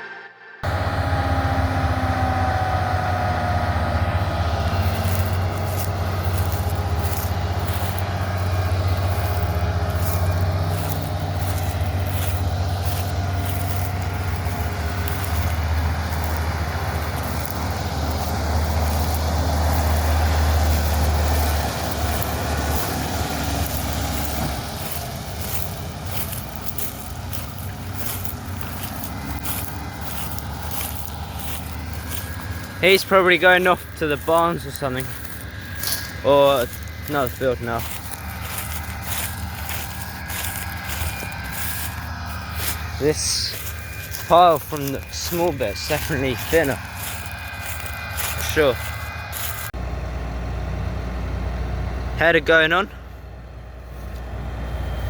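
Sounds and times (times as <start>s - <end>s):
diesel farm machinery droning: 0.0s - 55.0s.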